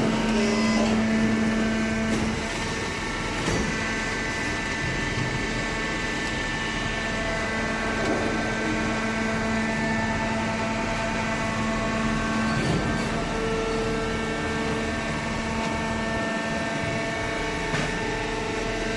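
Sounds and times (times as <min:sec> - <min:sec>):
baler machine hum: 0:00.0 - 0:18.9.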